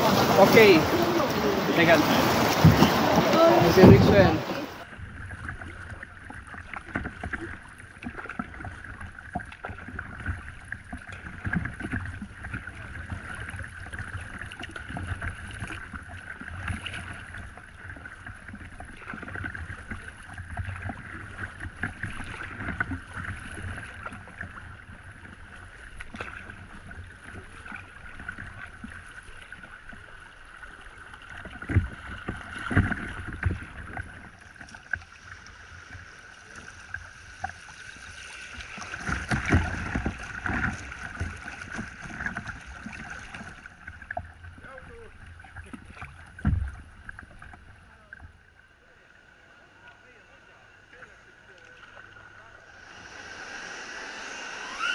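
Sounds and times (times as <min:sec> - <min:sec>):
paddle splashes: 0:00.0 - 0:54.9
river water rushing against boat: 0:00.0 - 0:54.9.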